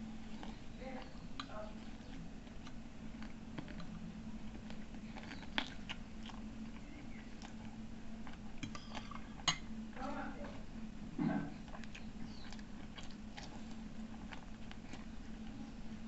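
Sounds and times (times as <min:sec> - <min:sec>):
person chewing: 0:00.0 - 0:09.8, 0:11.1 - 0:16.0
steady low hum: 0:00.0 - 0:16.0.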